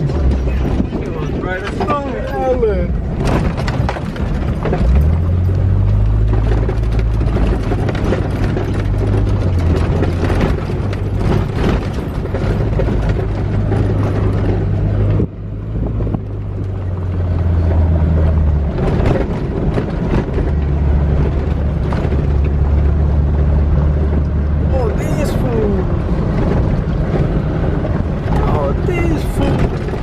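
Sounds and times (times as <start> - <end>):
car engine droning: 0.0 - 30.0.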